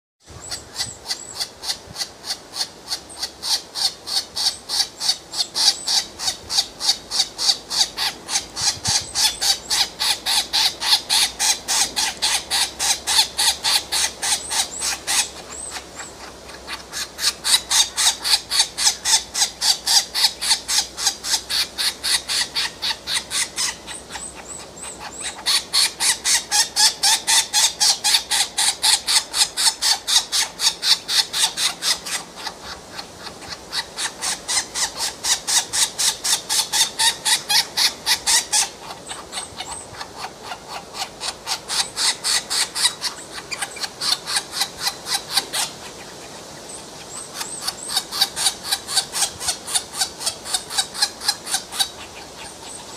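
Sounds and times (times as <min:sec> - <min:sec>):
nestlings rasping begging calls: 0:00.3 - 0:52.9.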